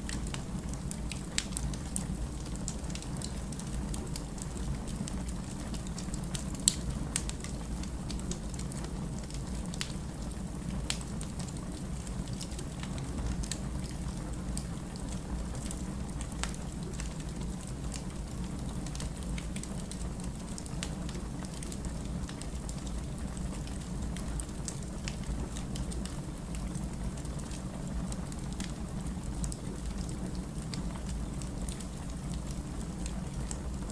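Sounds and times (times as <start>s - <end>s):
fire crackling and popping: 0.0s - 33.9s
wood fire rumbling: 0.0s - 33.9s.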